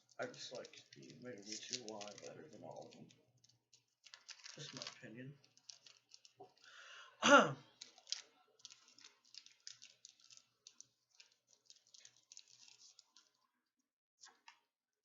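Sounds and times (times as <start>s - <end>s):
foil wrapper and cards rustling: 0.0s - 6.8s, 7.8s - 13.5s.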